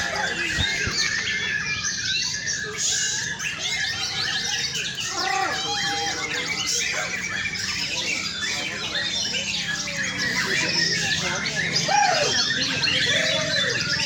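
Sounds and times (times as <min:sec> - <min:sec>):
birds singing in chorus: 0:00.0 - 0:14.0.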